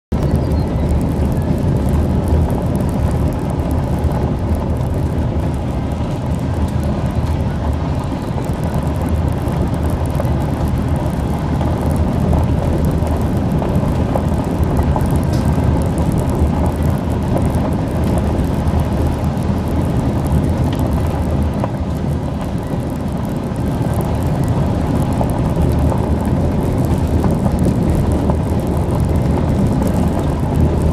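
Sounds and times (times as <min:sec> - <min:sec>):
car rumbling on gravel: 0:00.1 - 0:30.9.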